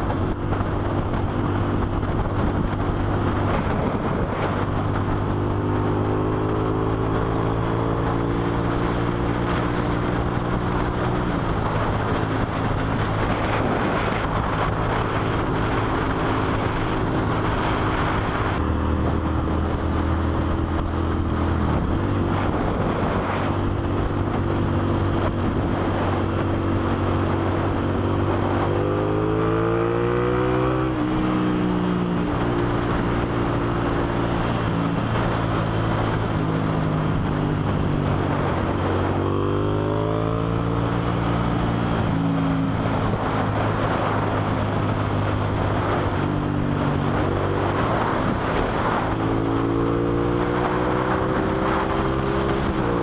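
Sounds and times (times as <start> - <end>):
motorcycle engine running: 0.0 - 53.0
wind rush: 0.0 - 53.0.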